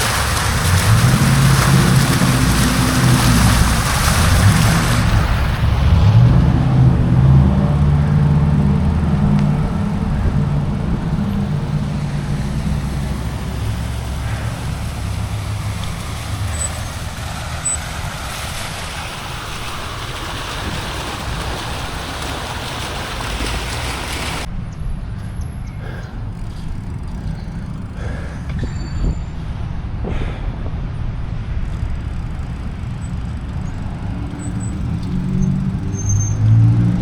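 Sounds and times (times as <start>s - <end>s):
wind over microphone: 0.0s - 17.3s, 18.0s - 35.9s
vehicle engine rumbling: 0.0s - 37.0s.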